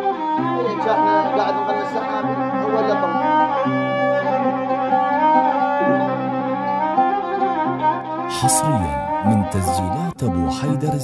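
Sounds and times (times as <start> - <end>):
violin melody with slides: 0.0 - 11.0.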